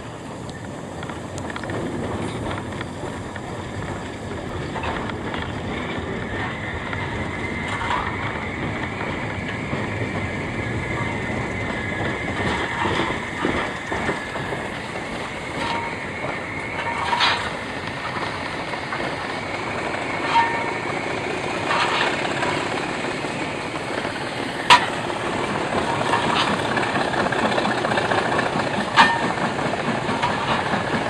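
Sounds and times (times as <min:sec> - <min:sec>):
train wheels clattering on rails: 0:00.0 - 0:31.0
high steady squeal: 0:02.5 - 0:31.0.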